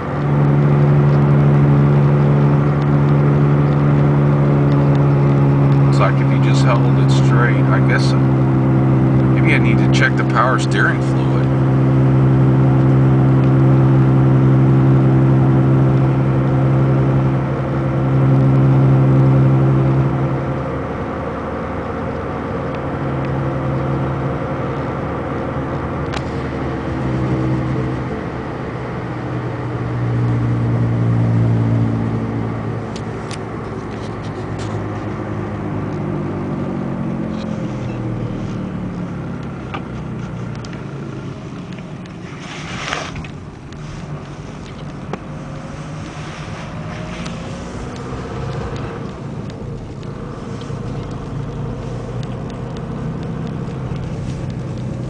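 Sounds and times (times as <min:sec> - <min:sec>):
loud droning hum: 0:00.0 - 0:55.0
tyre and road noise: 0:00.0 - 0:55.0.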